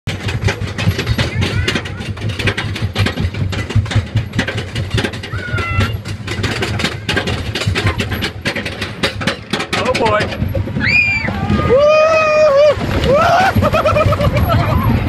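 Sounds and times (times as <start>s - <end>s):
roller coaster train rattling on track: 0.1s - 15.0s.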